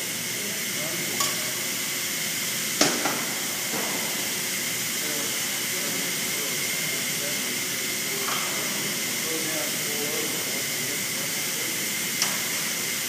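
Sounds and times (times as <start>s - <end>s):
workshop background hiss: 0.0s - 13.0s.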